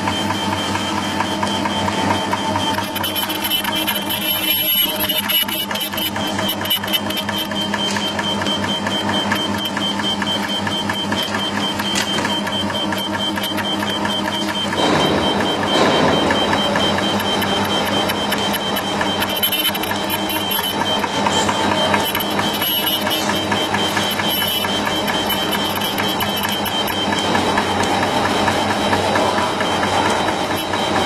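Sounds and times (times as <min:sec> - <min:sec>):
machine hum with rapid ticking: 0:00.0 - 0:31.0.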